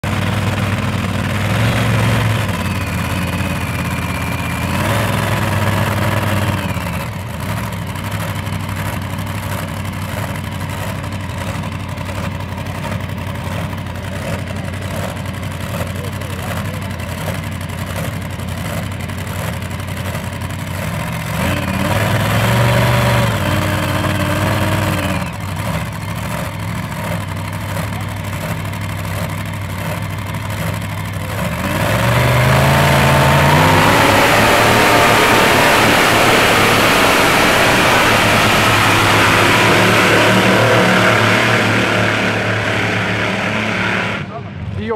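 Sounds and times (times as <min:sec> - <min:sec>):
tractor engines revving: 0:00.0 - 0:44.9.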